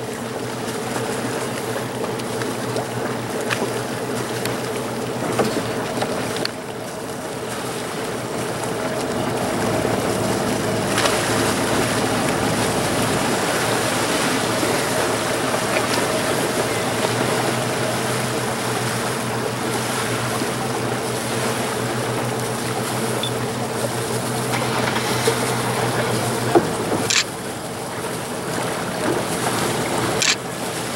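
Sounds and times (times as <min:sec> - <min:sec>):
boat engine humming: 0:00.0 - 0:30.9
rush of wind and water: 0:00.0 - 0:30.9.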